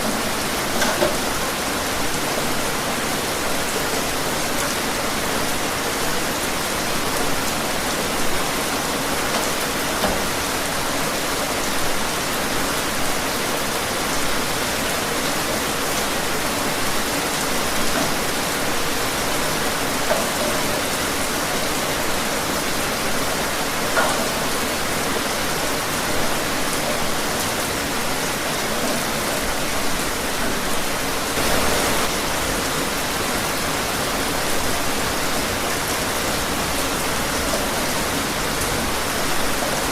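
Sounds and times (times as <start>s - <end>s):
louder raindrops: 0.0s - 39.9s
steady rain: 0.0s - 39.9s.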